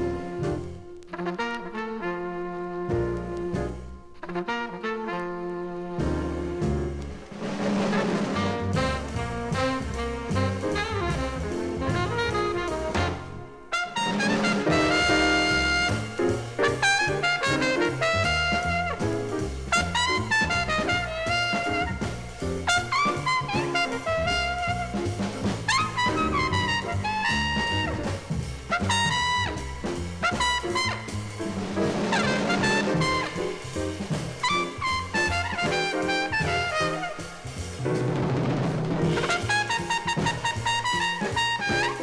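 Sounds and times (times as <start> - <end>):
jazz band with brass and drums: 0.0 - 42.0.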